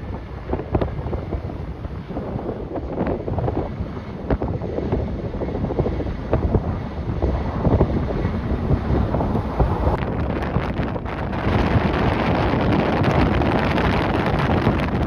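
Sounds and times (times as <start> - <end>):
strong gusting wind on microphone: 0.0 - 15.0.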